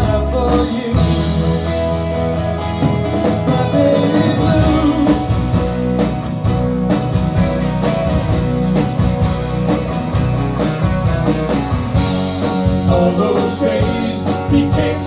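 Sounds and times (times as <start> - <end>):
bass guitar: 0.0 - 15.0
drum kit on a steady beat: 0.0 - 15.0
electric guitars: 0.0 - 15.0.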